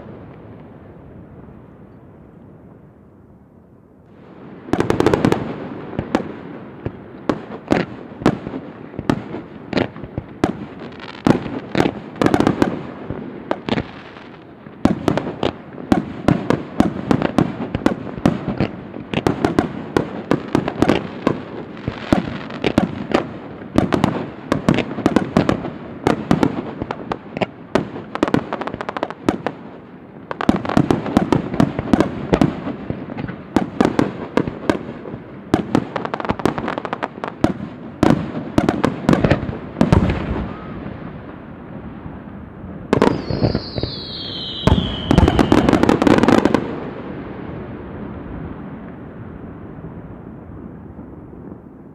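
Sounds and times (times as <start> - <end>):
fireworks bangs and crackling: 4.1 - 51.9.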